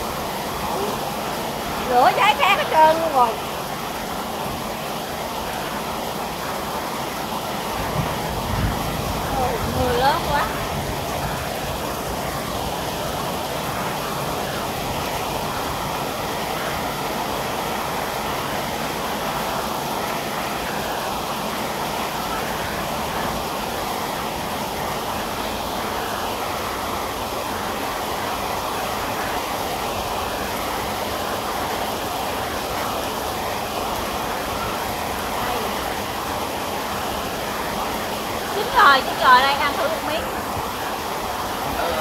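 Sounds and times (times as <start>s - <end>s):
rain falling steadily: 0.0s - 42.0s.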